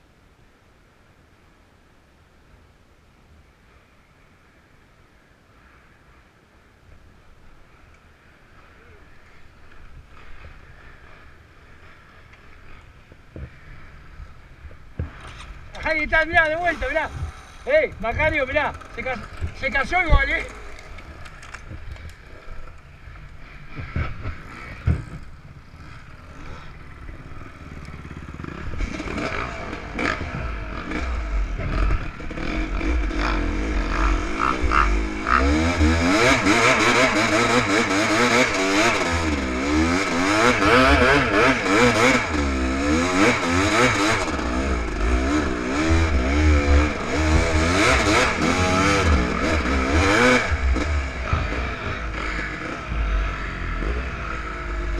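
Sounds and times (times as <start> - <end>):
motorcycle engine revving: 10.0 - 54.9.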